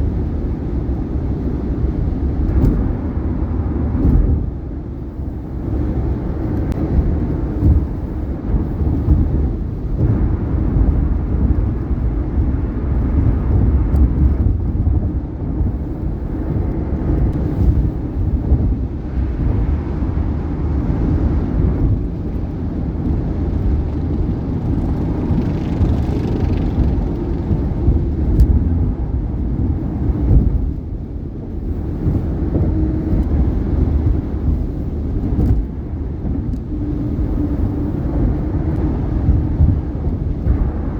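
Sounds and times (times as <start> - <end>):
road and tyre noise: 0.0 - 40.9.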